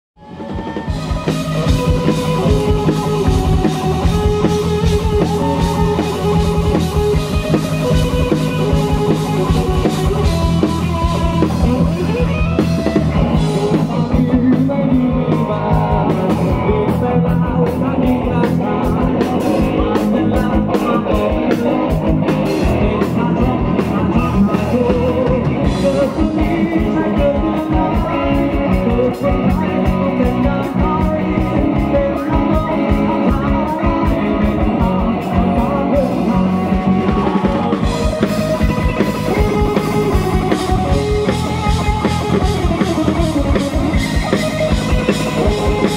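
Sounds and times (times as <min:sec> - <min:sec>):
bass guitar: 0:00.2 - 0:45.9
drum kit: 0:00.2 - 0:45.9
electric guitar: 0:00.2 - 0:45.9.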